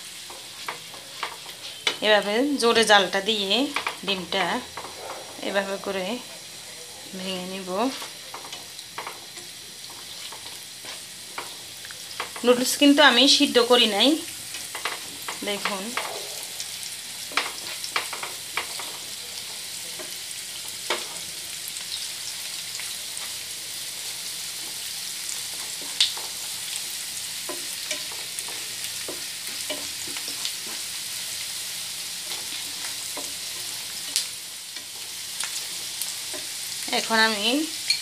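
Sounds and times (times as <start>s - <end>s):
egg and onion sizzling in oil: 0.0s - 38.0s.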